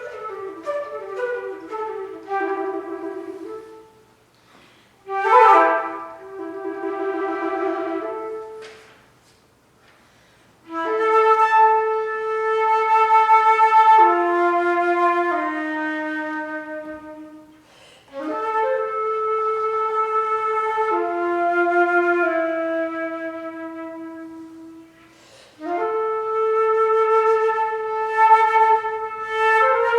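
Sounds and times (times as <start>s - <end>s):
solo flute playing: 0.0s - 4.1s, 5.0s - 8.8s, 10.6s - 29.9s.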